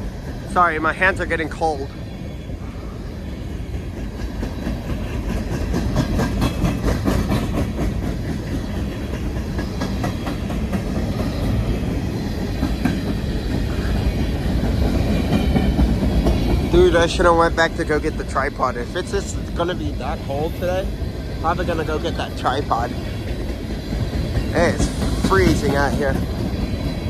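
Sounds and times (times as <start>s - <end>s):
train wheels rumbling on rail: 0.0s - 27.0s
wheels clicking over rail joints: 3.5s - 27.0s.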